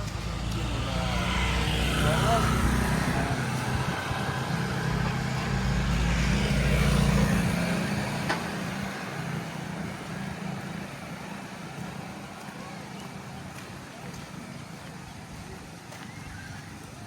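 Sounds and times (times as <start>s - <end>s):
vehicle passing with engine rumble: 0.0s - 15.8s.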